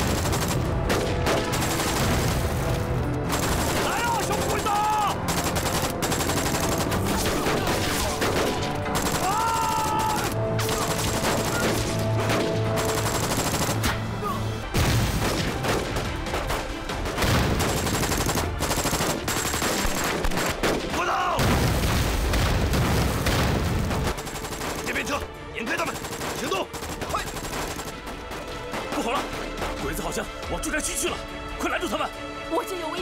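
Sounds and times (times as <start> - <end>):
machine gun firing: 0.0 - 14.0, 14.8 - 20.9, 21.6 - 28.5
rifles firing rapidly: 0.0 - 14.0, 15.1 - 21.1, 22.2 - 29.4.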